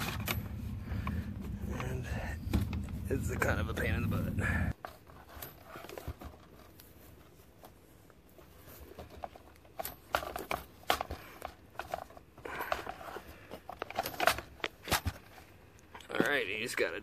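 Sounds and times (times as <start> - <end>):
cable rustling and scraping: 0.0 - 16.9.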